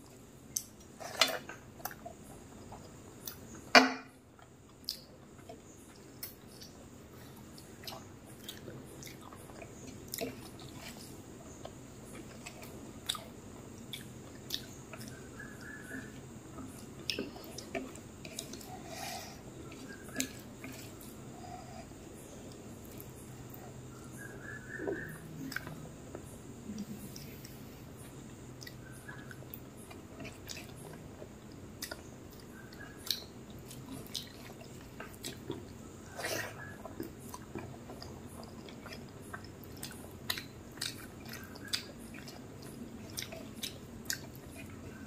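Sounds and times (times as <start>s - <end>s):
chewing rice: 4.3s - 45.0s.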